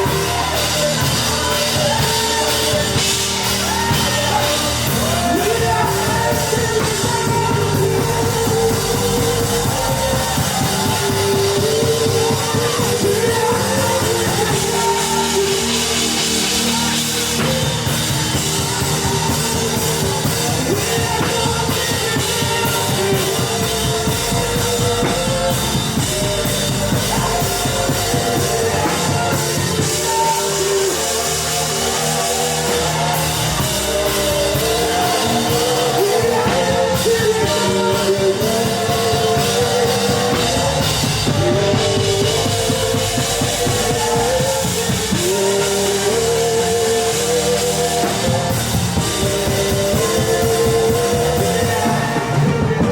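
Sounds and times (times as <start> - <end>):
drum kit: 0.0 - 52.9
live band playing: 0.0 - 52.9
people singing: 0.0 - 52.9.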